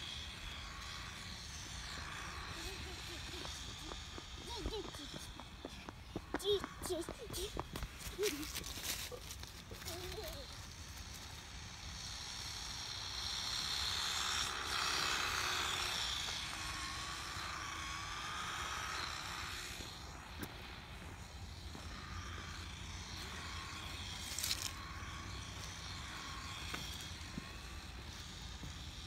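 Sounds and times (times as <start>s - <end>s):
rc truck motor whine: 0.0s - 29.0s.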